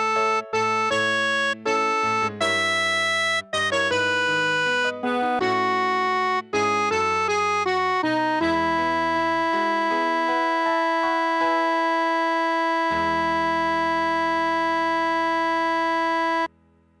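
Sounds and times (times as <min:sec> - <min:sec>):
synthesized keyboard playing a hymn: 0:00.0 - 0:16.6.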